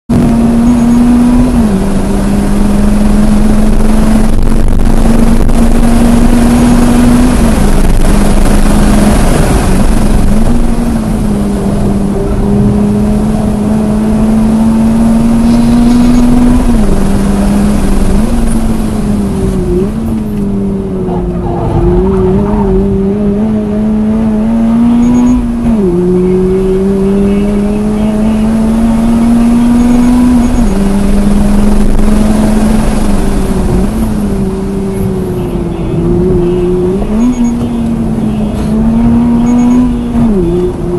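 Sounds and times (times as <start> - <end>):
car engine at high revs: 0.0 - 40.9
wind and road noise: 0.0 - 40.9.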